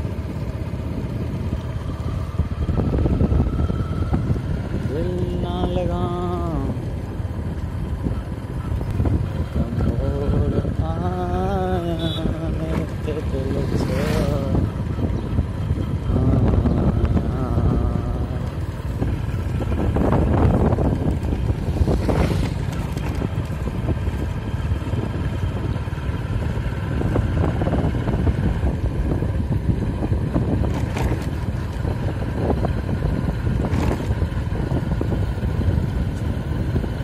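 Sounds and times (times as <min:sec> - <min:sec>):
motorcycle engine running: 0:00.0 - 0:37.0
wind buffeting microphone: 0:00.0 - 0:37.0.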